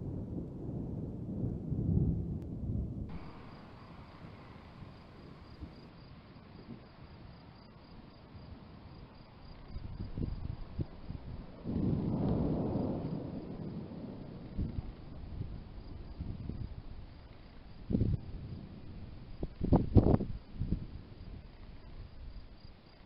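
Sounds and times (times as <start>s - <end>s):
thunder rumbling: 0.0s - 7.7s, 9.7s - 22.4s
crickets chirping: 3.1s - 23.0s.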